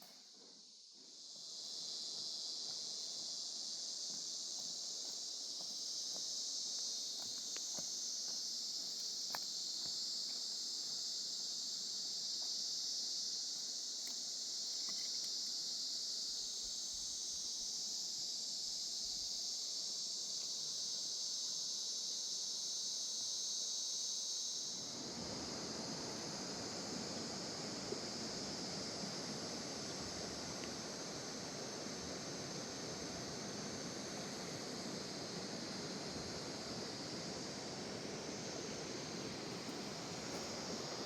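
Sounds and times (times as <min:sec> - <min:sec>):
insects chorus: 0:00.0 - 0:41.0.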